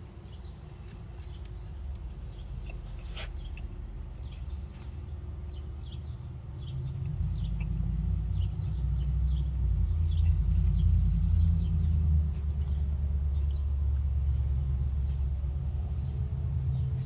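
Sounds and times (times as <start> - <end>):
low engine-like rumble: 0.0 - 17.0
small birds chirping: 0.0 - 17.0.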